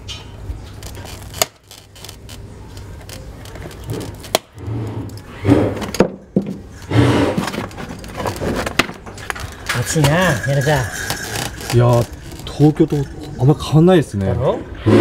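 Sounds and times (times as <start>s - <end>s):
scraping: 0.1s - 15.0s.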